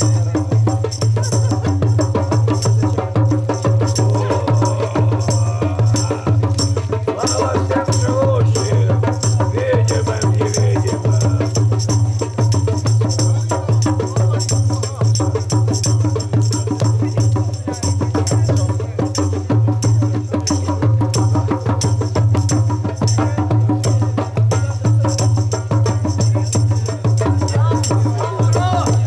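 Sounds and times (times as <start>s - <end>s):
fast dense percussion: 0.0s - 29.0s.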